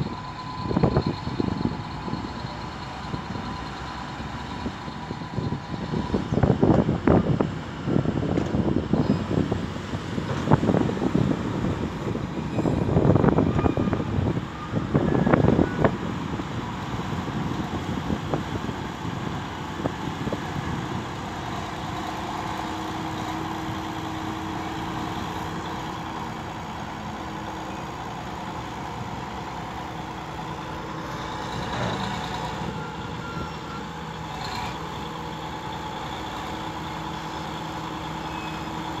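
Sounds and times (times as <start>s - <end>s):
bulldozer diesel engine: 0.0s - 39.0s.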